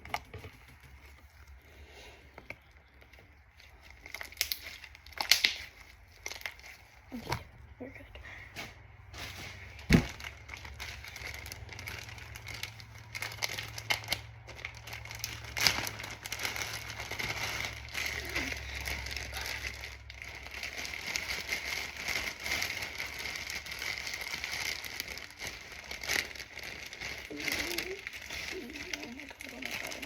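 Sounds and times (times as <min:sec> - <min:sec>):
slime crackling and crunching: 0:02.5 - 0:07.4, 0:09.1 - 0:30.0.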